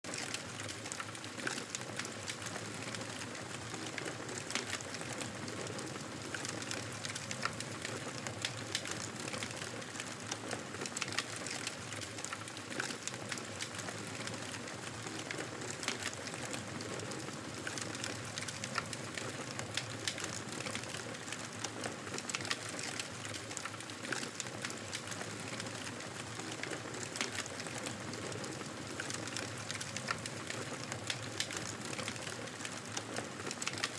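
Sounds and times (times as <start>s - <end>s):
campfire crackling and popping: 0.1s - 33.9s.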